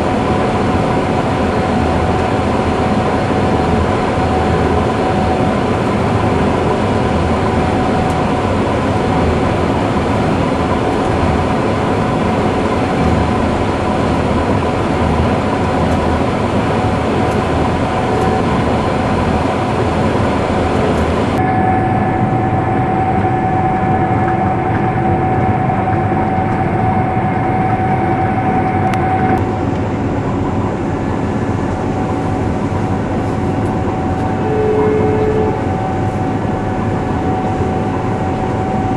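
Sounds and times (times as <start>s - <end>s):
combine harvester engine drone: 0.0s - 38.9s
high mechanical whine: 0.0s - 38.9s.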